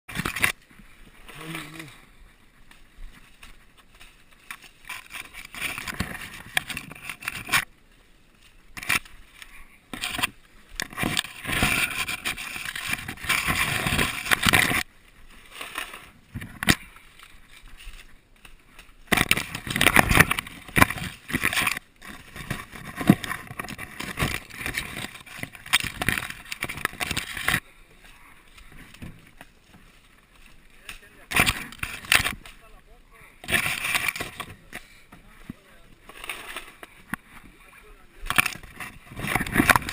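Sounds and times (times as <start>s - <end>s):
leaves rustling and crackling: 0.1s - 39.9s.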